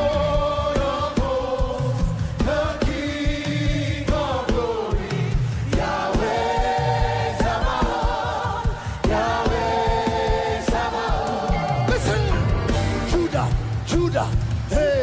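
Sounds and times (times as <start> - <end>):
choir singing: 0.0 - 13.9
band with drum and bass beat: 0.0 - 15.0.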